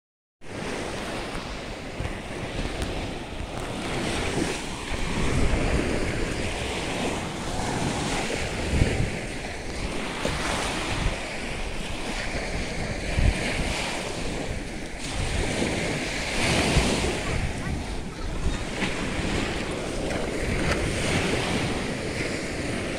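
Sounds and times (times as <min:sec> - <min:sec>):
waves washing onto shore: 0:00.5 - 0:22.9
wind on microphone: 0:00.5 - 0:22.9.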